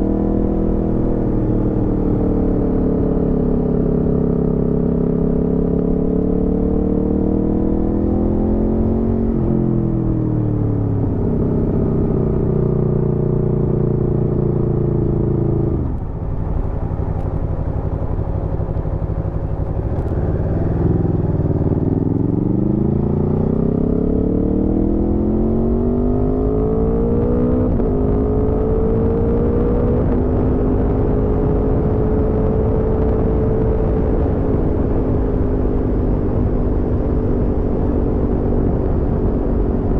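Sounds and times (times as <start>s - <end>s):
motorcycle engine revving: 0.0s - 10.2s, 10.8s - 39.9s
low wind rumble: 0.0s - 39.9s.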